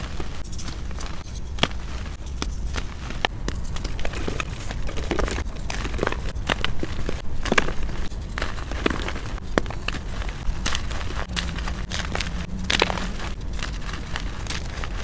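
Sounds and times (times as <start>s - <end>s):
chalk snapping: 0.0s - 15.0s
hands crumbling chalk: 0.0s - 15.0s.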